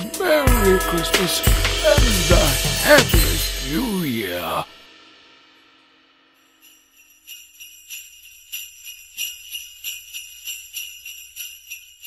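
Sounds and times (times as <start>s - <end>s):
sleigh bells jingling: 0.0s - 4.8s, 6.3s - 12.0s.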